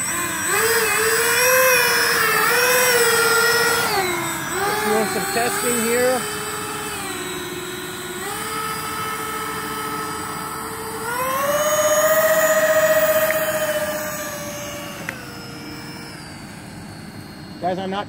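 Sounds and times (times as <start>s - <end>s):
model jet fans whining: 0.0s - 18.0s.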